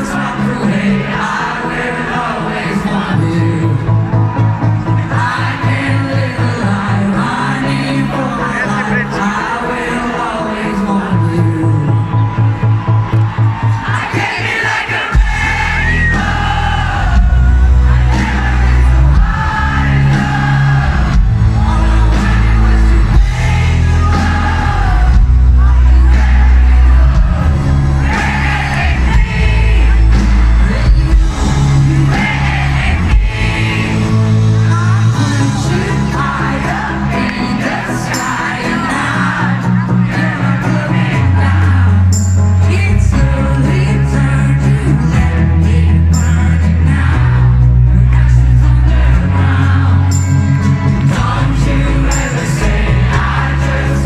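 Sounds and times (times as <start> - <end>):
woman singing lead vocal: 0.0 - 4.1, 5.0 - 12.2, 13.8 - 50.4
loud amplified band: 0.0 - 54.0.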